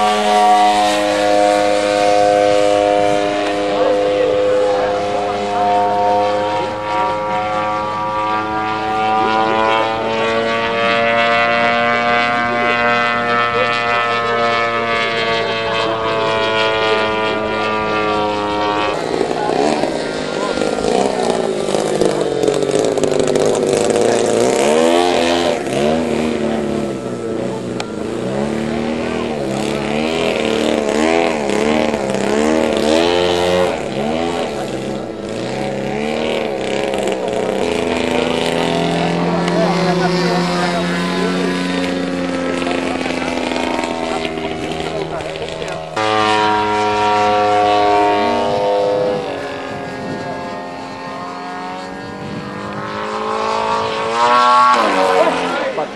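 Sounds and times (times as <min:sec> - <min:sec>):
model airplane engine droning: 0:00.0 - 0:55.9.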